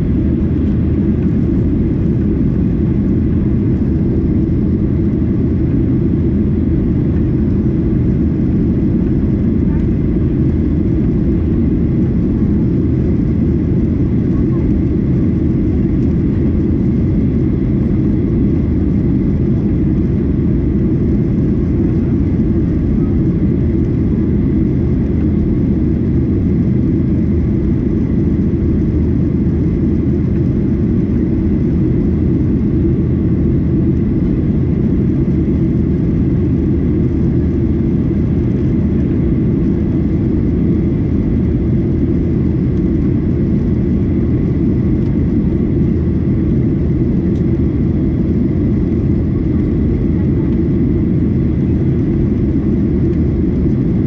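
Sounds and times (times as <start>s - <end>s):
airplane cabin engine noise: 0.0s - 54.0s.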